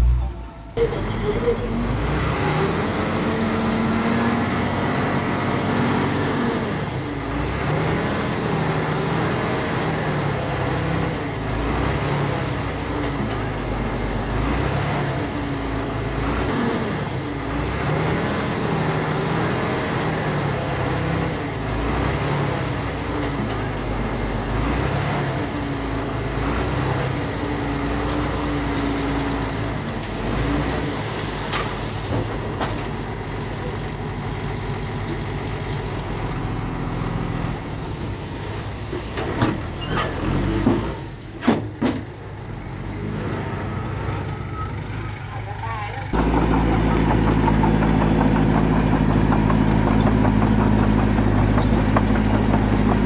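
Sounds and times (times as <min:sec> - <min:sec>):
bulldozer diesel engine working: 0:00.0 - 0:53.0.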